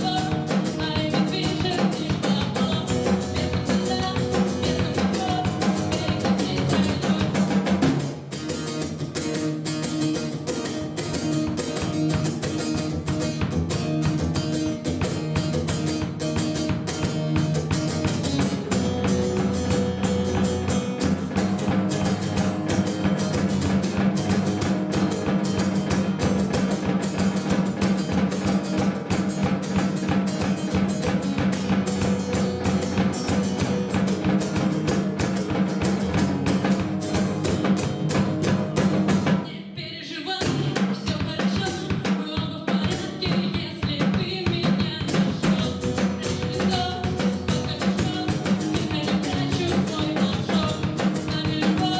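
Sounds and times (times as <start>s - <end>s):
drum kit beat: 0.0s - 39.5s, 40.4s - 51.9s
strummed guitar chords: 0.0s - 39.5s, 45.1s - 51.9s.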